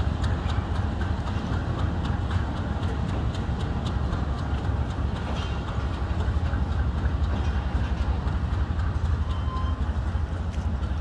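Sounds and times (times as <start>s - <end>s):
locomotive engine rumble: 0.0s - 11.0s
train coaches rolling over rails: 0.0s - 11.0s.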